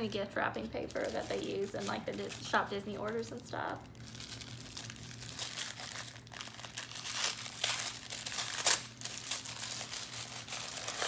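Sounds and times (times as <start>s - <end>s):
wrapping paper crinkling: 0.1s - 11.0s.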